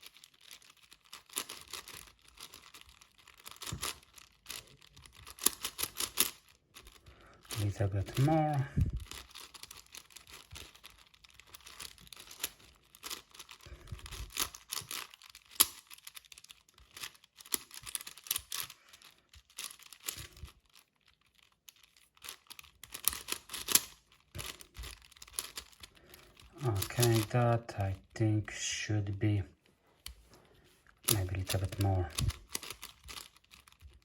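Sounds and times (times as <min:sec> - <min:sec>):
puzzle cube twisting clicks: 0:00.0 - 0:28.2, 0:30.9 - 0:34.0.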